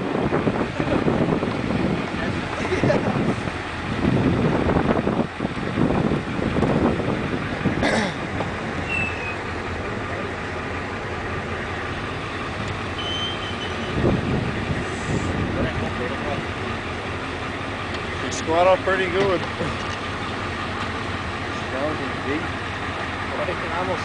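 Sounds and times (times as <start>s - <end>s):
truck engine rumble: 0.0s - 24.0s.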